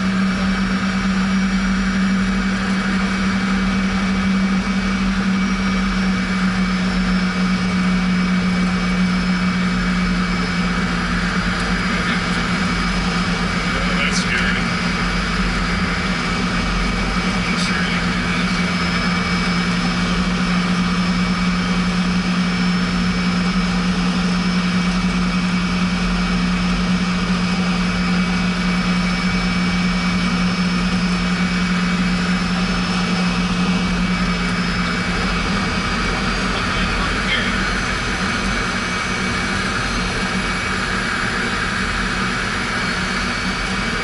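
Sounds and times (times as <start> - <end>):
jet engines running: 0.0 - 44.0.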